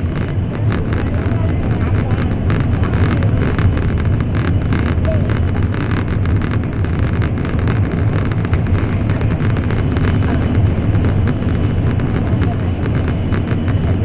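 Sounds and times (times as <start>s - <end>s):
train cabin low rumble: 0.0s - 14.0s.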